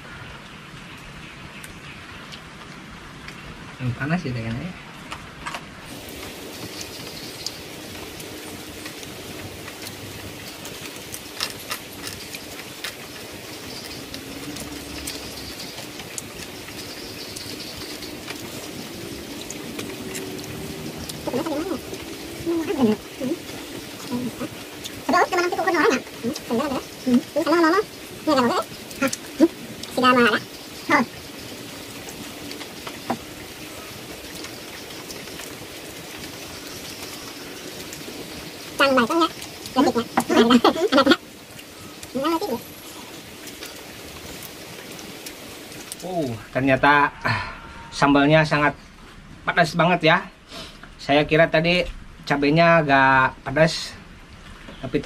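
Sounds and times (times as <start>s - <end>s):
rain hissing: 0.0s - 55.0s.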